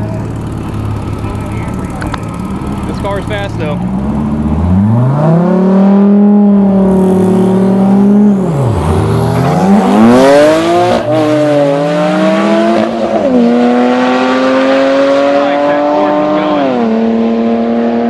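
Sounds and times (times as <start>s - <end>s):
car engine revving hard: 2.8s - 18.0s.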